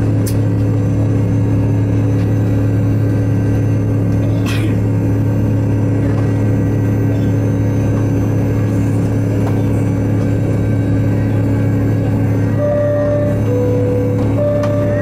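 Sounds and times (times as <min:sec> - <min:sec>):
jet engine idling drone: 0:00.0 - 0:15.0.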